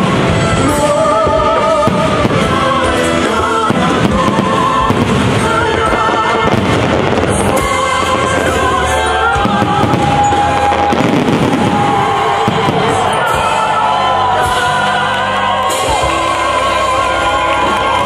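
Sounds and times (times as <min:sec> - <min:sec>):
fireworks bursting: 0:00.0 - 0:18.0
music with wavering singing voice: 0:00.0 - 0:18.0.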